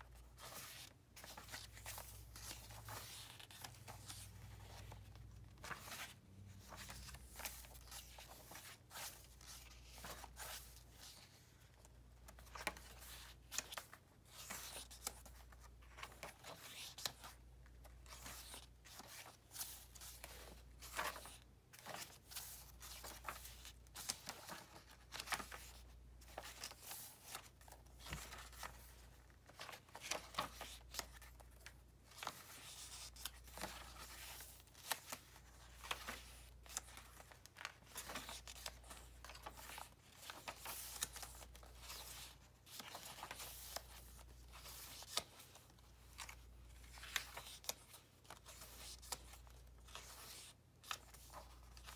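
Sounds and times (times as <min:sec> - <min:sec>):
paper pages turning: 0:00.1 - 0:51.9.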